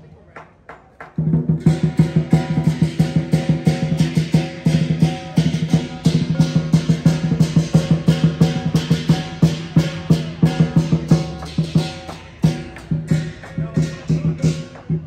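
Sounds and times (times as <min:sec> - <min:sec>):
music with drum beat: 0:00.4 - 0:15.0.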